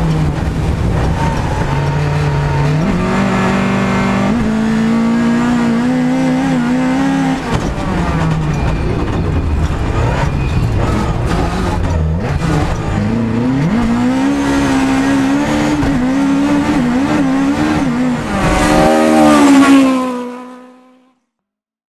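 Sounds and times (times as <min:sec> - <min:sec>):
rally car engine at high revs: 0:00.0 - 0:21.1.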